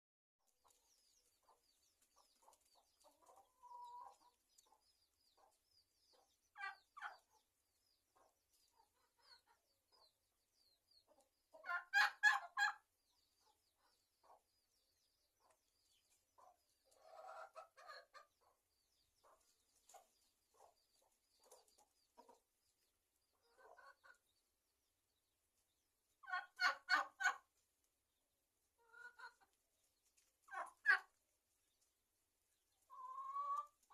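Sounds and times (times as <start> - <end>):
chickens clucking: 0.4 - 33.9.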